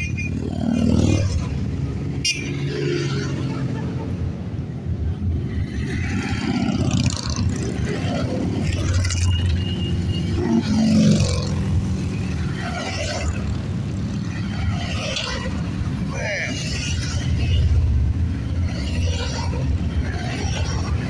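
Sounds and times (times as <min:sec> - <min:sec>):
motorcycles riding past: 0:00.0 - 0:04.2, 0:05.2 - 0:21.0.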